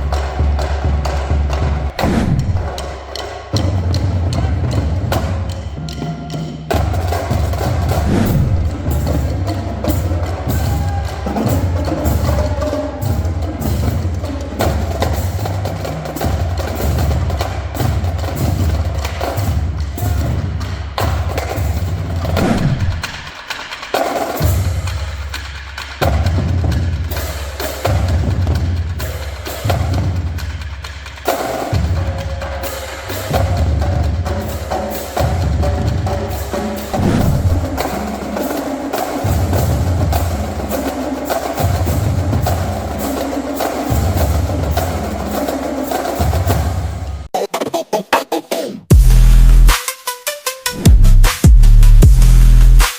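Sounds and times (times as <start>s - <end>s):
fast drum music with bass: 0.0s - 52.9s.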